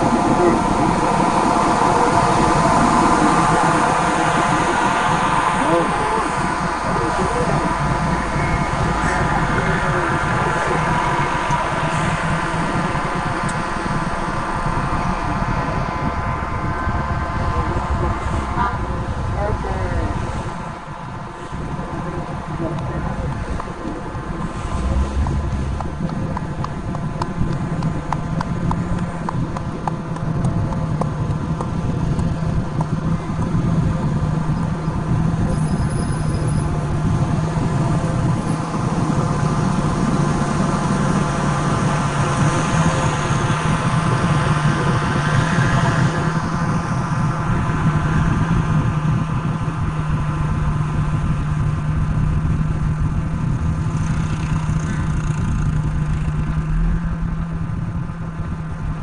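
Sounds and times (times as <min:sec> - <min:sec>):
rushing noise: 0:00.0 - 0:59.0
truck engine running: 0:00.0 - 0:59.0.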